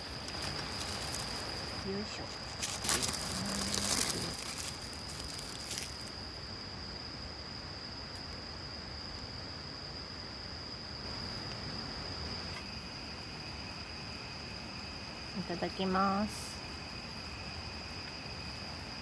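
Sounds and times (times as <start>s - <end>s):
high-pitched insect song: 0.0s - 19.0s
lower-pitched insect song: 0.0s - 19.0s.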